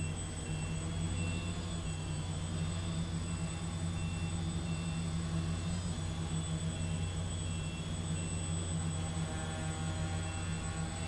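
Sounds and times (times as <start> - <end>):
drone propellers humming: 0.0 - 11.0
faint high pulsing tone: 0.0 - 11.0.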